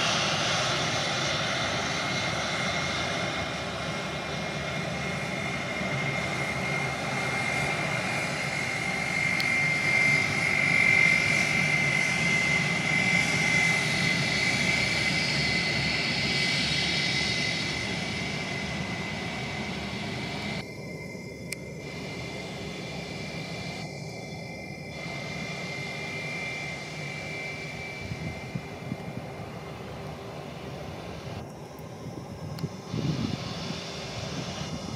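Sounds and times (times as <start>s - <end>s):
jet engines whining and roaring: 0.0s - 34.9s.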